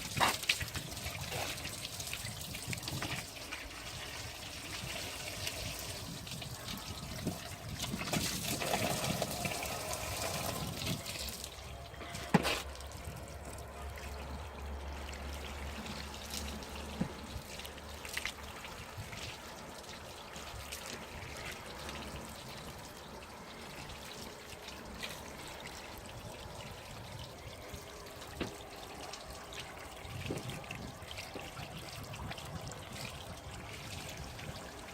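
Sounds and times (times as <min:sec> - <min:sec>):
water pouring over car: 0:00.0 - 0:34.9.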